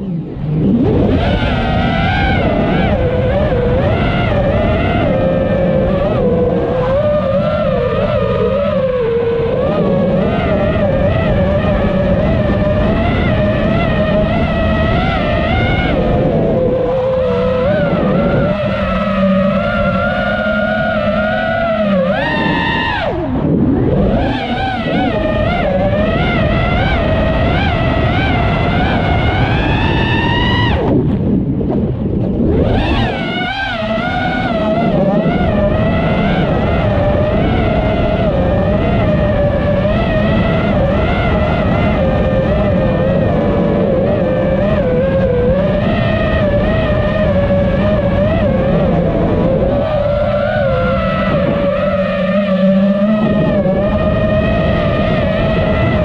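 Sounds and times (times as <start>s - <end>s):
low rumble: 0.0s - 56.0s
quadcopter motors whining: 0.0s - 56.0s
wind on microphone: 0.0s - 56.0s.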